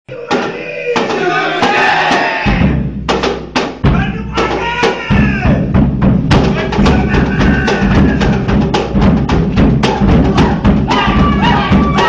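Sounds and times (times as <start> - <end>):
drums and percussion: 0.1 - 12.0
heavy bass and drum beat: 1.2 - 12.0.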